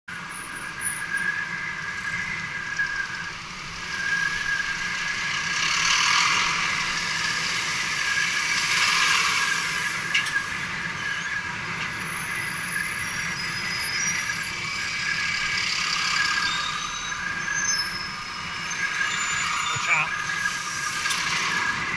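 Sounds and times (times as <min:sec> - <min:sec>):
city traffic: 0:00.1 - 0:21.9.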